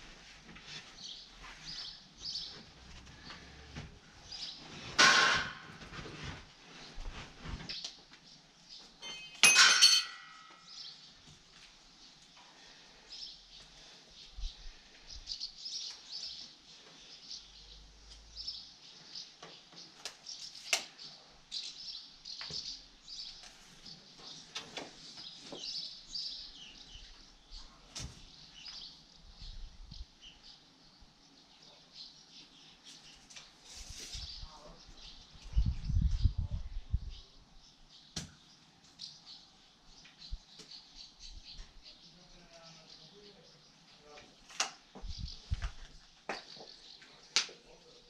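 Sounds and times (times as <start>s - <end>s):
small birds chirping: 0.6s - 4.8s, 10.1s - 48.0s.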